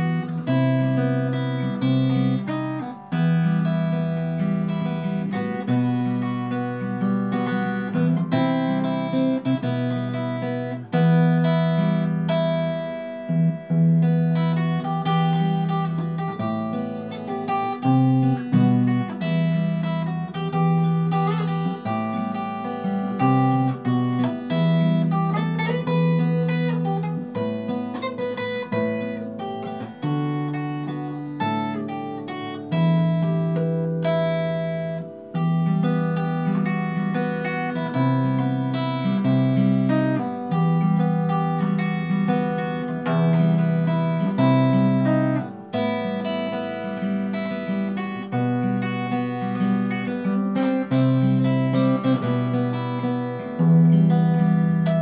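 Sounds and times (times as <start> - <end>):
fingerstyle acoustic guitar: 0.0 - 55.0.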